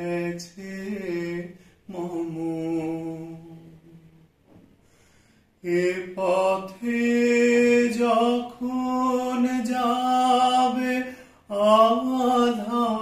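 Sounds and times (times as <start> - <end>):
man singing unaccompanied: 0.0 - 4.2, 5.6 - 13.0.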